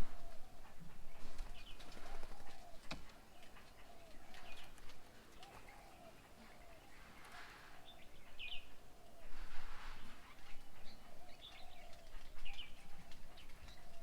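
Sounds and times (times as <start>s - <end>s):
bird cooing: 0.0s - 9.4s, 10.3s - 14.0s.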